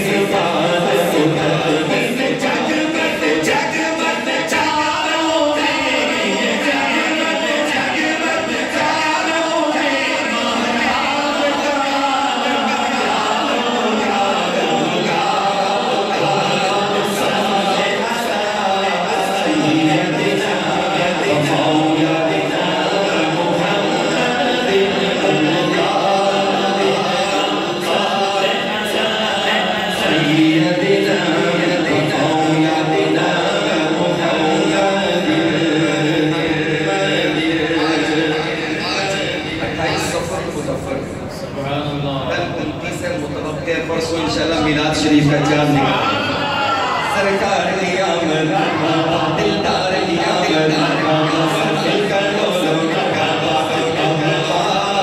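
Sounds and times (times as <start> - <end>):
man singing unaccompanied: 0.0 - 40.6, 47.1 - 55.0.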